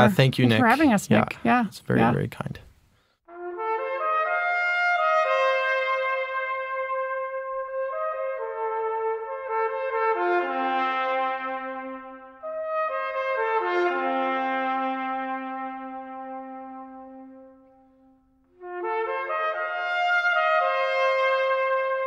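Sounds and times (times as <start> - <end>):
trumpets playing brass passage: 3.3 - 17.8, 18.6 - 22.0.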